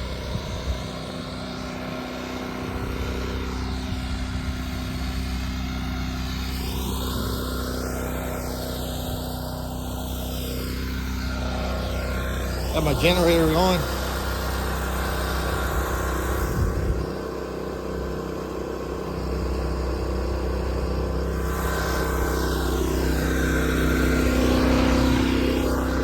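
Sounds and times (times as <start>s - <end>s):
generator engine running: 0.0s - 26.0s.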